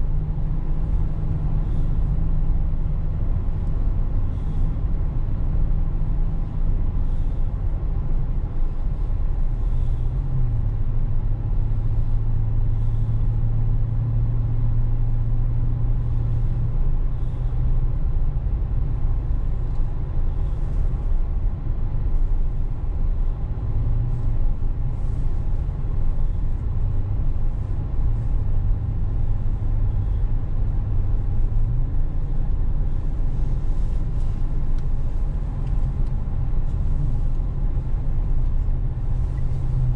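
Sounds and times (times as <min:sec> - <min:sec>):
car road and engine rumble: 0:00.0 - 0:39.9
low hum: 0:00.0 - 0:39.9.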